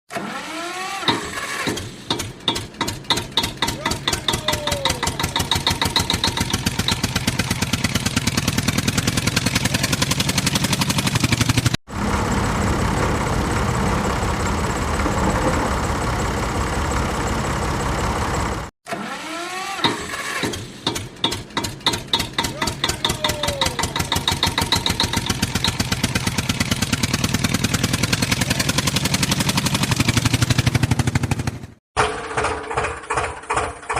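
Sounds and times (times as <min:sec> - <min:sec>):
tractor engine starting and running: 0:00.1 - 0:33.9.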